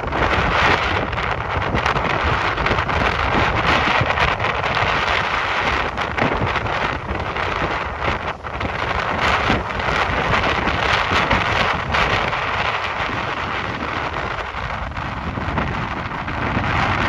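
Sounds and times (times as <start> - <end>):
wind buffeting thumps: 0.0 - 17.0
wind gusting across microphone: 0.0 - 17.0.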